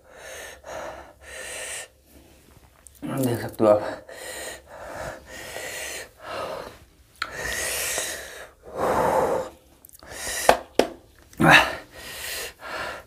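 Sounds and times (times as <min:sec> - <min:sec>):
man breathing hard: 0:00.0 - 0:02.5, 0:03.8 - 0:10.8, 0:11.4 - 0:13.0.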